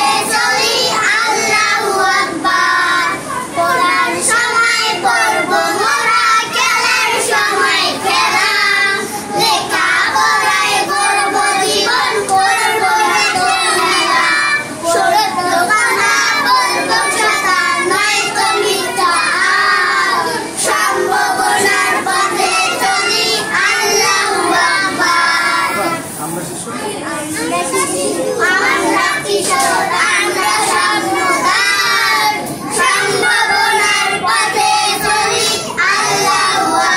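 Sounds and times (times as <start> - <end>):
children singing together: 0.0 - 26.1, 27.3 - 36.9.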